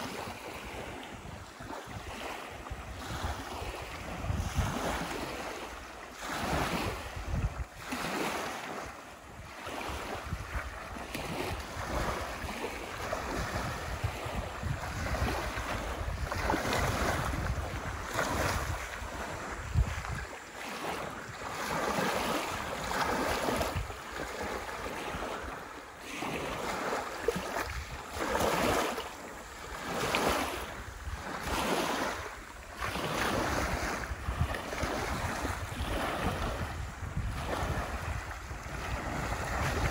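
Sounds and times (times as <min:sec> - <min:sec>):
waves lapping on pebbly shore: 0:00.0 - 0:39.9
wind rumbling on microphone: 0:00.0 - 0:39.9.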